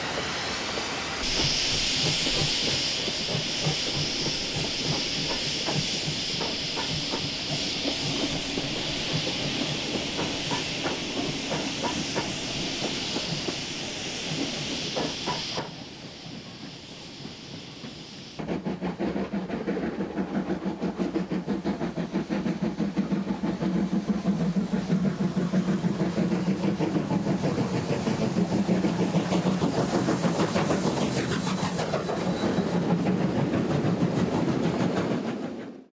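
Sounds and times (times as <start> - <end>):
steam locomotive hissing and chuffing: 0.0 - 35.9
train wheel clatter: 0.0 - 35.9.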